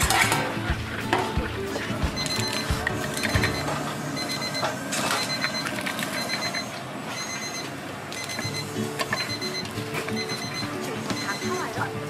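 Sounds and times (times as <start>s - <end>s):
high electronic beeps: 2.0s - 11.8s.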